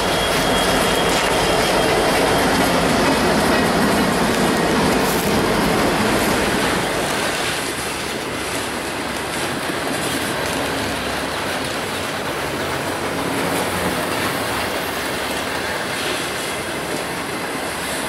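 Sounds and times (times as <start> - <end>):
freight train wheels on rail: 0.0 - 18.0.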